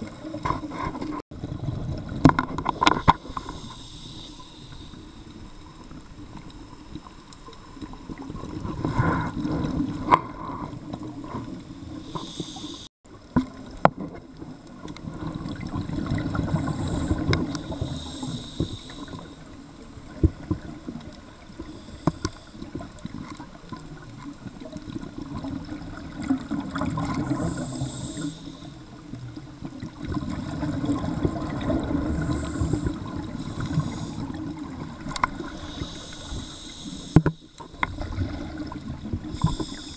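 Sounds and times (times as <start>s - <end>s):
regulator bubbles gurgling underwater: 0.0s - 39.9s.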